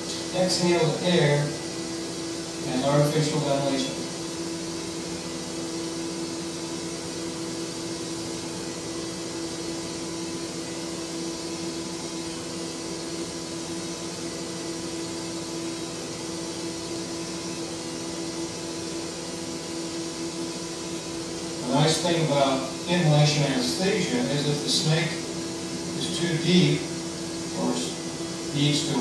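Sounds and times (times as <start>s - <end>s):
steady machine hum: 0.0s - 29.0s.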